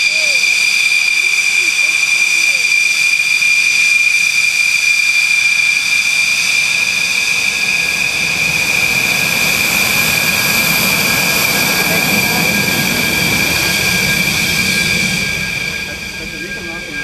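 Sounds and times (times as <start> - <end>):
jet turbine whine: 0.0 - 17.0.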